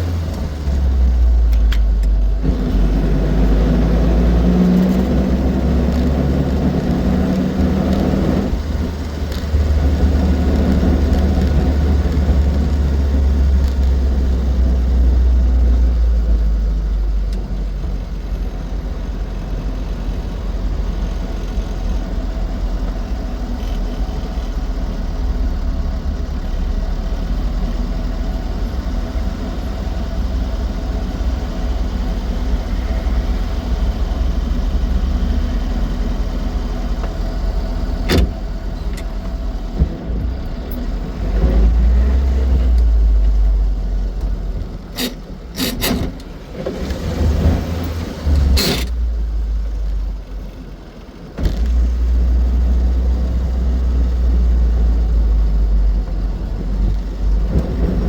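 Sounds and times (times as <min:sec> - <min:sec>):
small car engine droning: 0:00.0 - 0:58.0.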